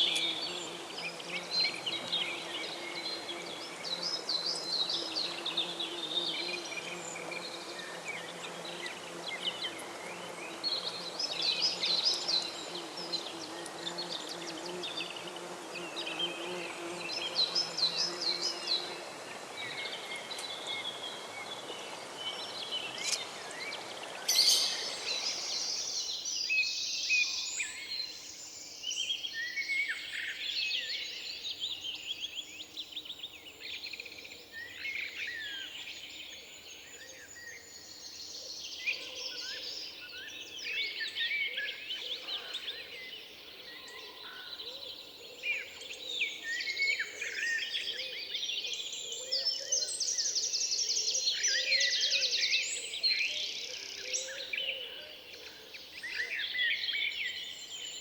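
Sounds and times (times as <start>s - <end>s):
songbirds singing and chirping: 0.0s - 58.0s
wind rustling in treetops: 0.0s - 58.0s.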